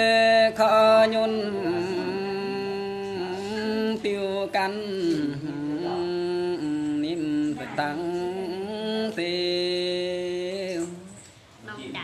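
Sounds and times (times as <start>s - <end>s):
man singing unaccompanied: 0.0s - 11.3s.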